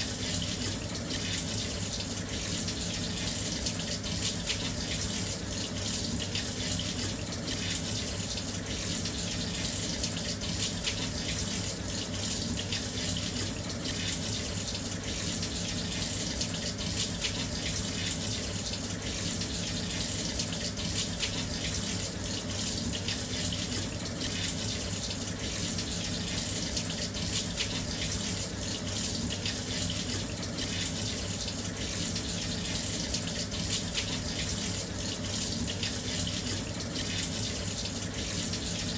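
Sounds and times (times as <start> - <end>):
water rushing into washing machine: 0.0 - 38.9.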